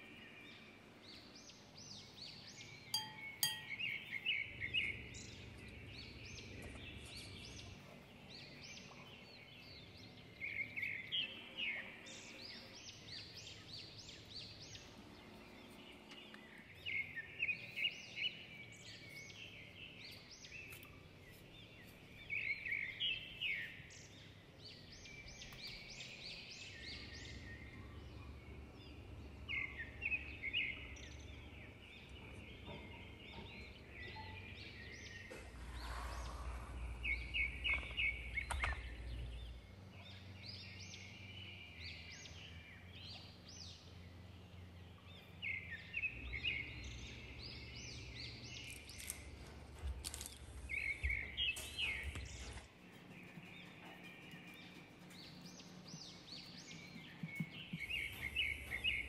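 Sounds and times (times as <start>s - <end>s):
birds chirping: 0.0s - 59.0s
faint low hum: 0.0s - 59.0s.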